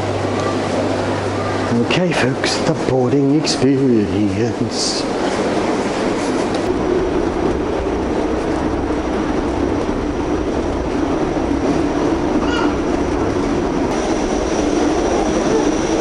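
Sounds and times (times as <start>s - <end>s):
rolling rumble: 0.0s - 16.0s.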